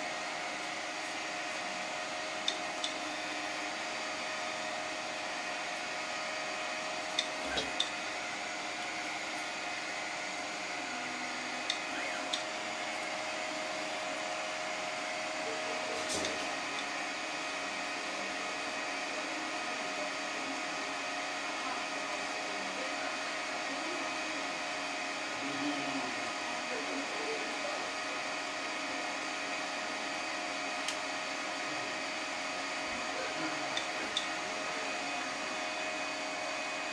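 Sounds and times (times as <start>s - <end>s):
printer motors and fans whining: 0.0s - 36.9s.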